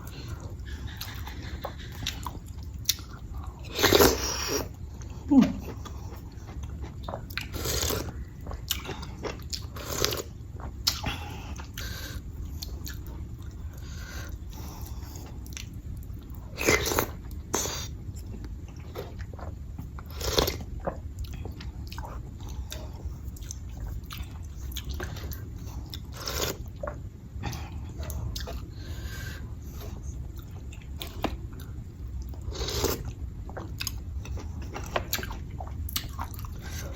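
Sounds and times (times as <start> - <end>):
person chewing: 0.0 - 36.9.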